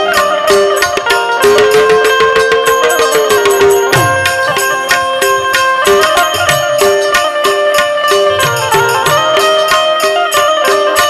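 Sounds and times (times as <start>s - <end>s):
harmonium melody: 0.0s - 11.0s
percussion beat with jingling: 0.0s - 11.0s.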